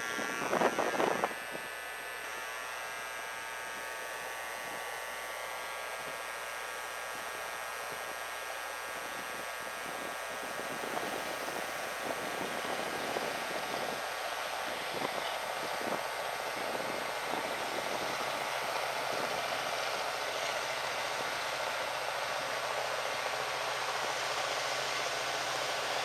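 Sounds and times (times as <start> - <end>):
background hiss: 0.0 - 26.0
distant diesel locomotive engine hum: 0.0 - 26.0.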